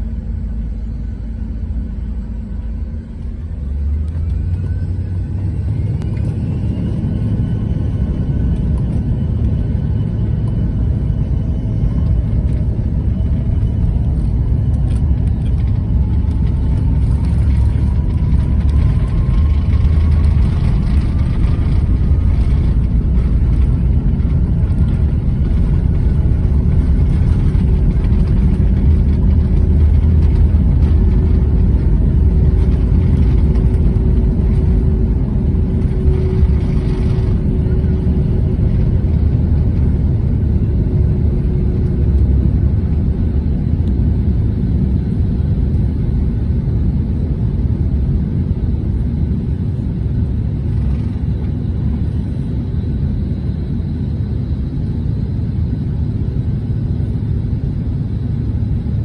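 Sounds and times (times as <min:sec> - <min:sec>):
jet engine whine: 0:00.0 - 0:59.0
jet engines rumbling: 0:00.0 - 0:59.0.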